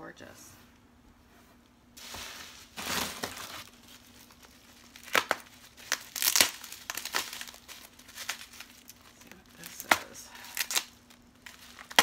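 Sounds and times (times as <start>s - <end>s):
bubble wrap crinkling: 2.0s - 12.0s.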